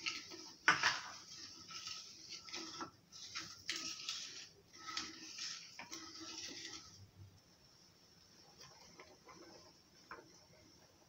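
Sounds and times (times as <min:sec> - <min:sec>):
wooden spatula scraping a pan: 0:00.0 - 0:07.4, 0:08.2 - 0:11.0.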